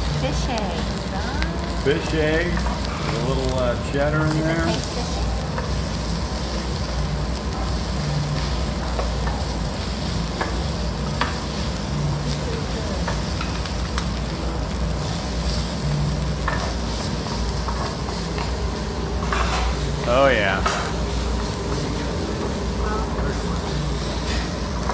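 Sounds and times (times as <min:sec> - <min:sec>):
rice sizzling on griddle: 0:00.0 - 0:24.9.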